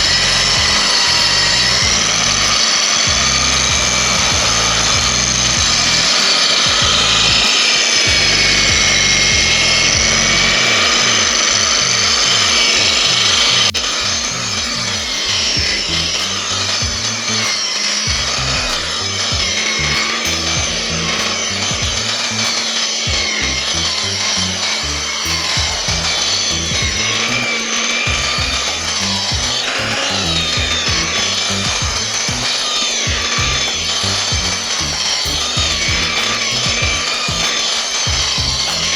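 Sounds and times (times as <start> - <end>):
sander grinding a surface: 0.0 - 38.9.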